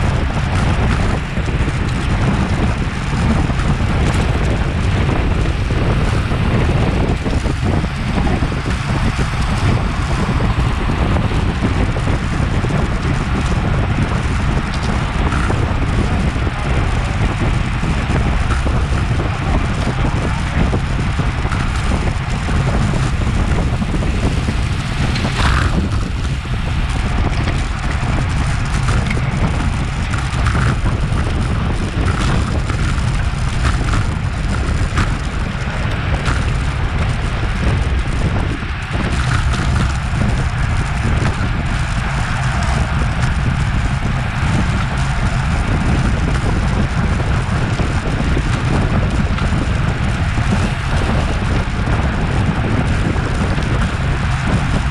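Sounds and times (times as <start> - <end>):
bicycle tyre and drivetrain noise: 0.0 - 54.9
wind rushing on microphone: 0.0 - 54.9.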